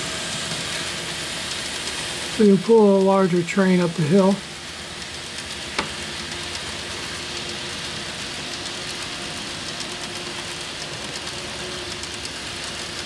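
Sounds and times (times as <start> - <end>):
model train wheels hissing on rail: 0.0 - 13.0.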